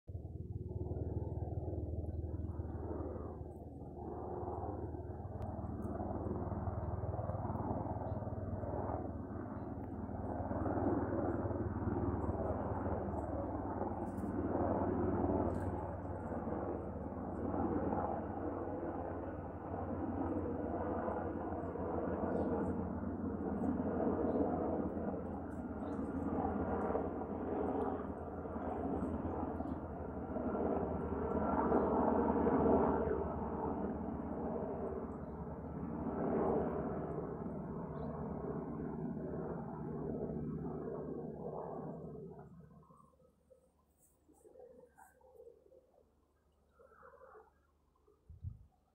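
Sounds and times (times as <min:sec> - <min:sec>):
helicopter rotor and engine drone: 0:00.1 - 0:48.9.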